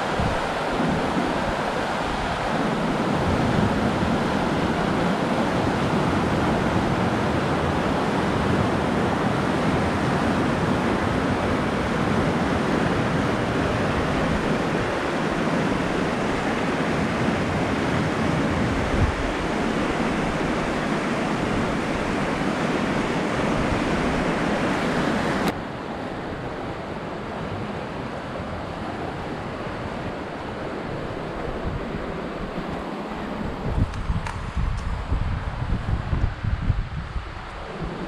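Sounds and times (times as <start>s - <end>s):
whitewater roaring over rocks: 0.0s - 38.0s.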